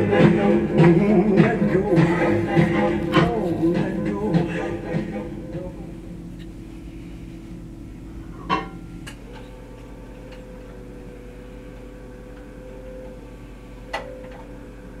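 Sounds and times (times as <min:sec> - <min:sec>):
jukebox mechanical hum: 0:00.0 - 0:15.0.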